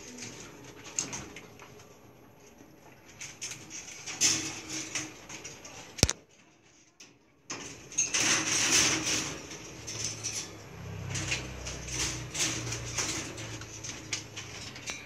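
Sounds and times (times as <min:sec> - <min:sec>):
puppies rattling a wire pen: 0:00.0 - 0:01.7, 0:03.0 - 0:15.0.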